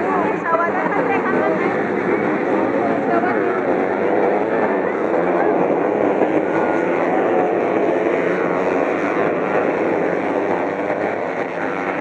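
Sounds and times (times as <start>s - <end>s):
motocross bike engines droning: 0.0s - 12.0s.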